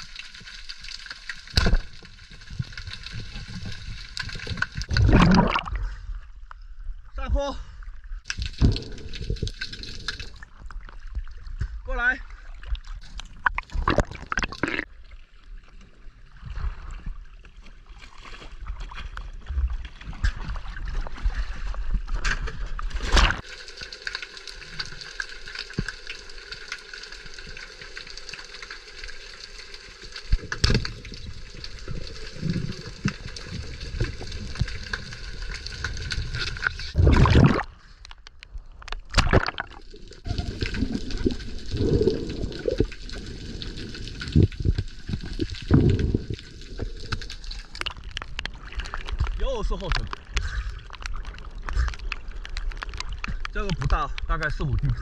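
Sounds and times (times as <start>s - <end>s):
water gurgling and sloshing: 0.0s - 55.0s.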